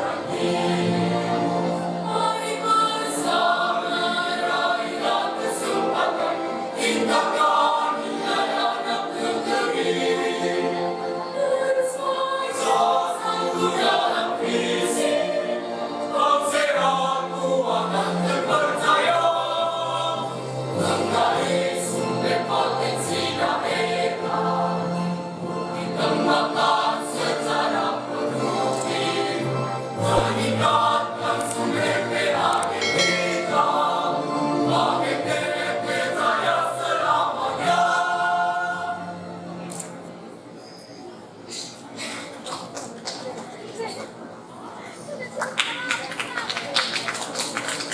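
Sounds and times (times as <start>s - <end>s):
choir singing long notes: 0.0s - 39.7s.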